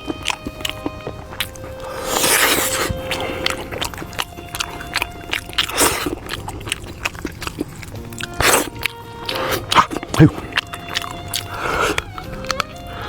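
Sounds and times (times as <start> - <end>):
slurping: 0.0 - 13.0
wet chewing and smacking: 0.0 - 13.0.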